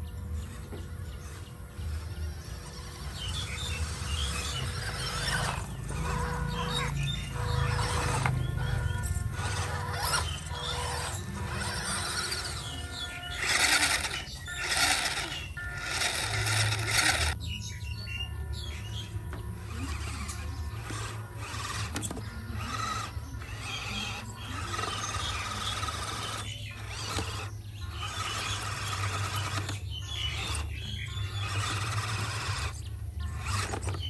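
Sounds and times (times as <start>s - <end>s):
electric motor and gears whining: 0.0s - 34.0s.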